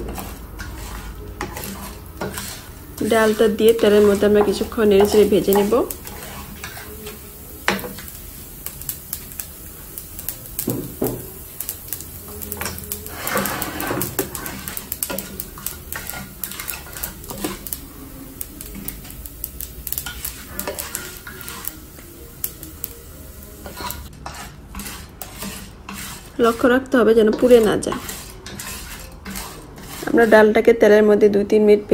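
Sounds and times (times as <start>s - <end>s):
oil sizzling: 0.0s - 30.8s
spatula scraping frying pan: 0.0s - 31.2s.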